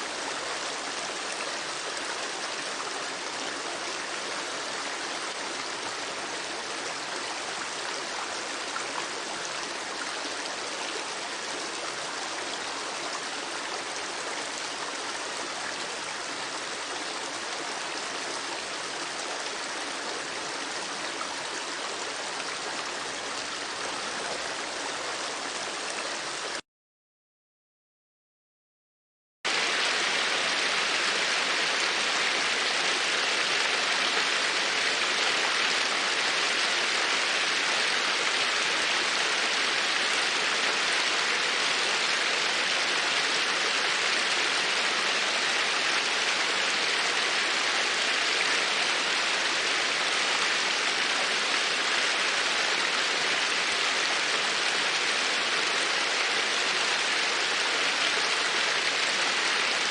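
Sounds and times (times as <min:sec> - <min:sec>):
rushing water: 0:00.0 - 0:26.6, 0:29.5 - 0:59.9.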